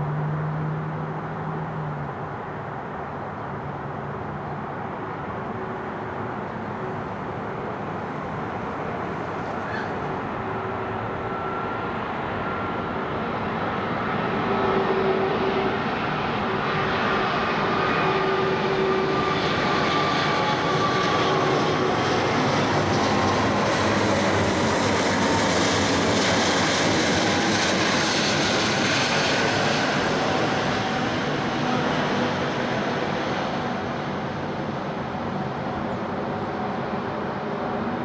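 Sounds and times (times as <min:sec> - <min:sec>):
jet plane passing overhead: 0:00.0 - 0:38.0.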